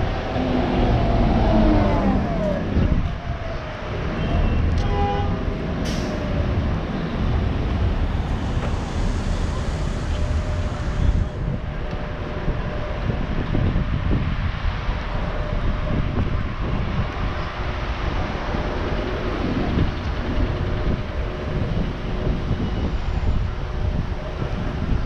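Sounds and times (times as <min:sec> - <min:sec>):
bus engine pulling away: 0:00.0 - 0:25.0
passing cars rumbling: 0:00.0 - 0:25.0.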